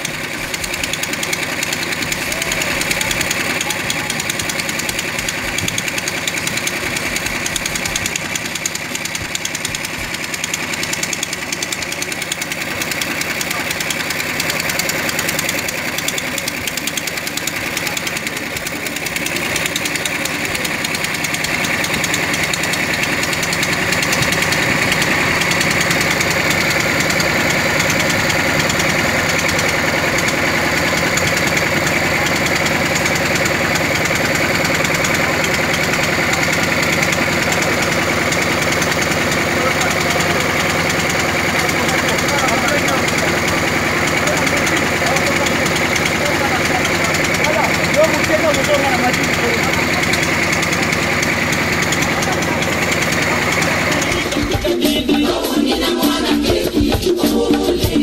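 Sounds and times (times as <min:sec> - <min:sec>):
engine running with even pulsing: 0:00.0 - 0:58.0.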